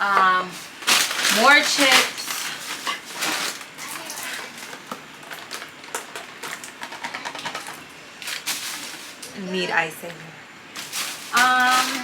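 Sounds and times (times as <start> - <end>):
plastic bags crinkling: 0.0 - 9.5, 10.7 - 12.0.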